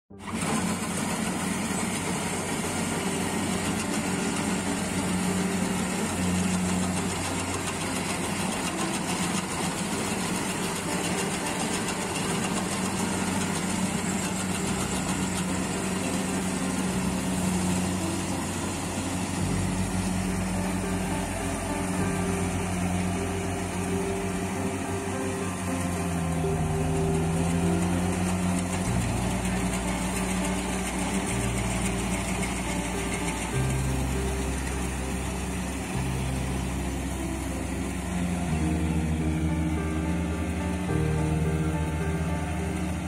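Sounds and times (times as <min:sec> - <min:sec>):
diesel engine running: 0:00.1 - 0:43.0.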